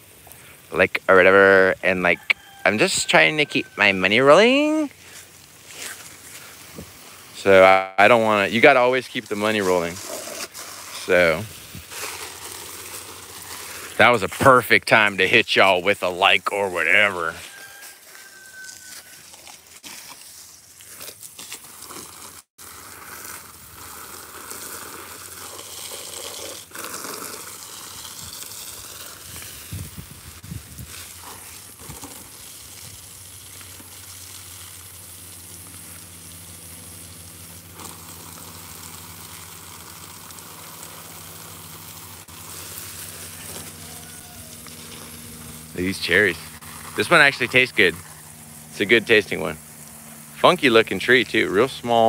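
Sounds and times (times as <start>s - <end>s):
garden hose spraying water: 0.0s - 52.0s.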